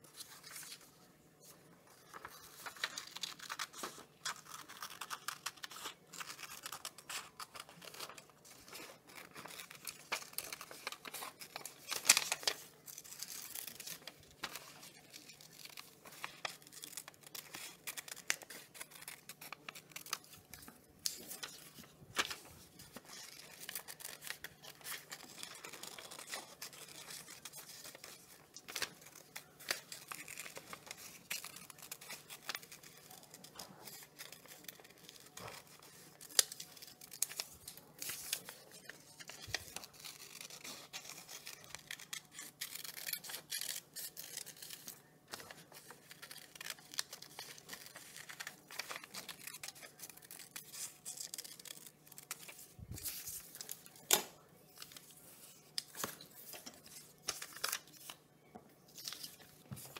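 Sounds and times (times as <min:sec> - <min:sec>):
paper rustling: 0:00.0 - 0:58.2, 0:58.9 - 0:59.9
scissors snipping paper: 0:02.8 - 0:54.3.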